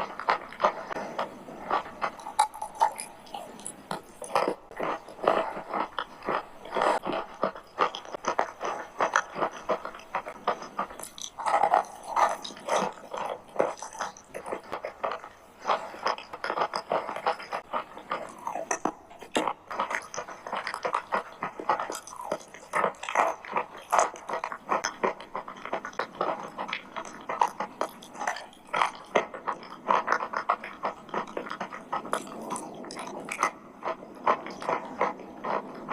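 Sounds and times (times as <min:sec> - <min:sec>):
mouth chewing crunchy chalk: 0:00.0 - 0:35.9.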